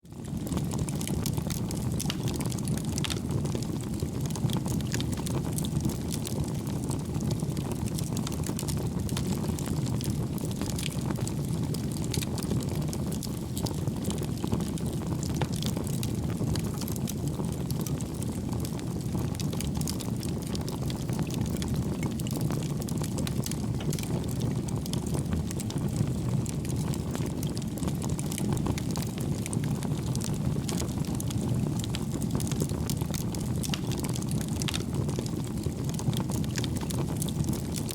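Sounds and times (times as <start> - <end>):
burning wood crackling and popping: 0.2 - 37.9.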